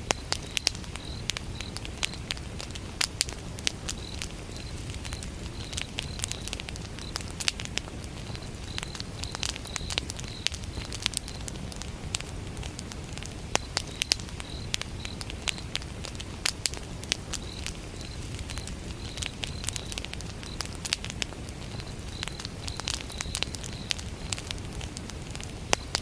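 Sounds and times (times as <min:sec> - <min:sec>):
cricket chirping: 0:00.0 - 0:12.6, 0:13.2 - 0:25.0
wood fire crackling and popping: 0:00.0 - 0:26.0.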